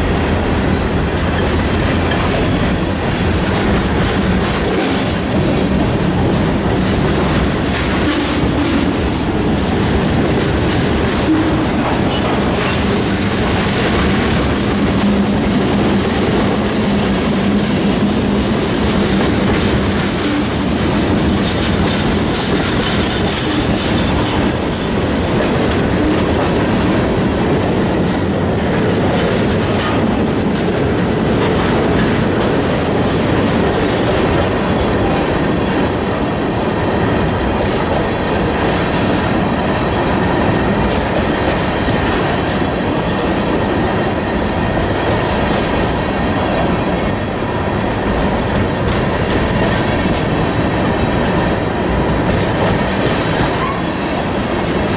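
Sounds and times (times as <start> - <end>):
freight train wheels clattering: 0.0 - 54.9.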